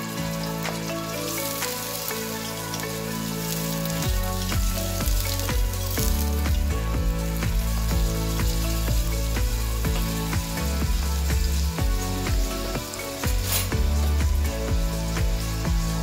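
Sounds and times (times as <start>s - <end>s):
background music with bass line: 0.0s - 16.0s
onions sizzling in oil: 0.0s - 16.0s.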